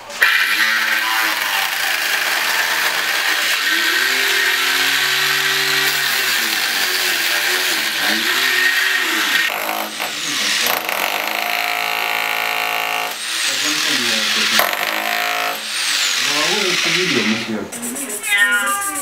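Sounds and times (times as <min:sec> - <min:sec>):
angle grinder whining: 0:00.0 - 0:17.6.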